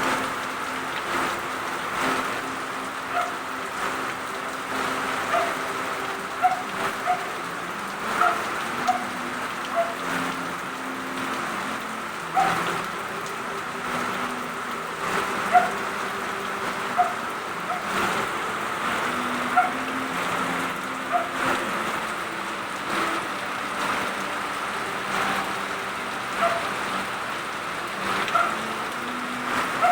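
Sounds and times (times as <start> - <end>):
heavy rain on hard surface: 0.0 - 29.9.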